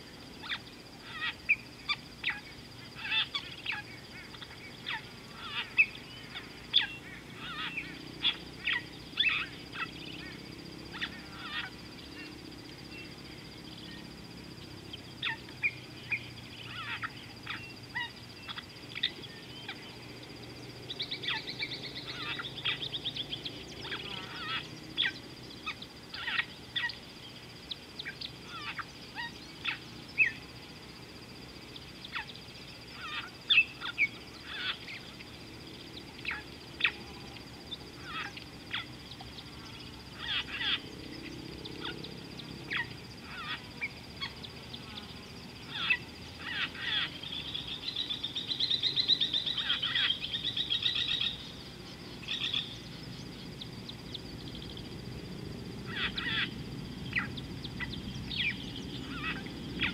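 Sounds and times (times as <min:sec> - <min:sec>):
birds calling: 0:00.0 - 0:30.8, 0:31.4 - 0:59.9
bird trill: 0:00.4 - 0:14.1, 0:15.2 - 0:20.0, 0:20.9 - 0:27.0, 0:27.6 - 0:30.4, 0:31.7 - 0:37.1, 0:37.7 - 0:51.6, 0:52.2 - 0:53.0, 0:55.8 - 0:59.9.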